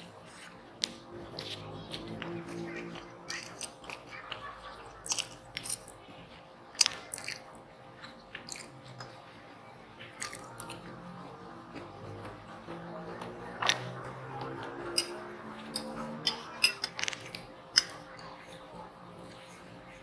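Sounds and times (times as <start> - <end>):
chewing: 0.0 - 20.0
quiet background music: 0.0 - 20.0.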